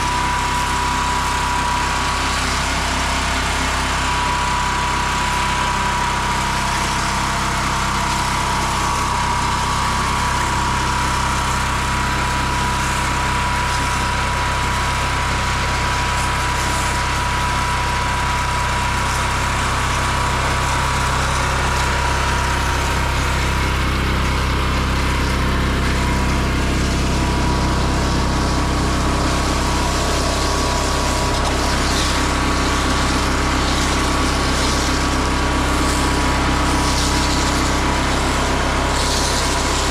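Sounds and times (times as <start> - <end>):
small engine running: 0.0 - 39.9
thin steady whine: 0.0 - 39.9.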